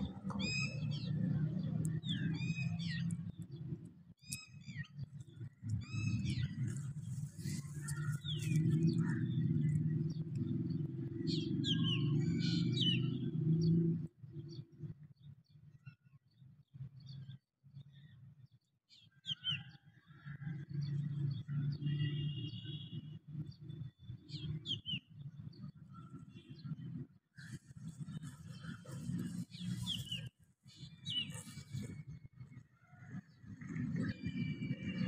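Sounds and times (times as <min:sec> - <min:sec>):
birds chirping: 0:00.0 - 0:15.4, 0:20.4 - 0:35.0.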